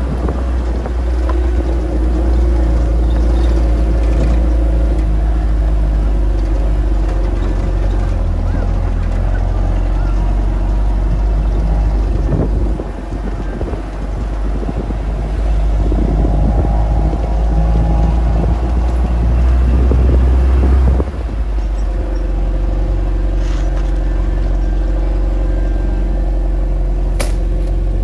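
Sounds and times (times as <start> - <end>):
off-road vehicle engine rumbling: 0.0 - 28.0.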